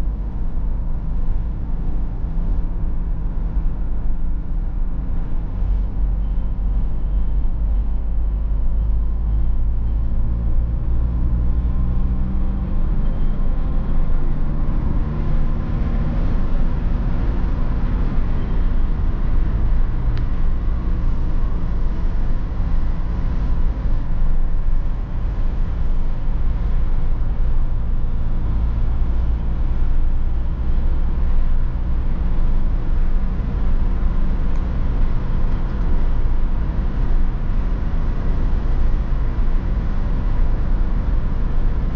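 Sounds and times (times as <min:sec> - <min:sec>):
diesel engine droning: 0:00.0 - 0:41.9
road and tyre rumble: 0:00.0 - 0:41.9.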